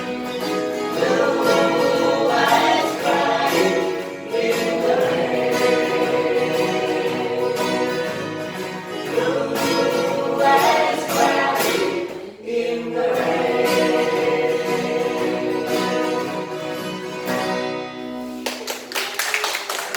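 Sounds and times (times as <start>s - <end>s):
group of voices singing: 0.0s - 16.6s
acoustic guitar: 0.0s - 18.9s.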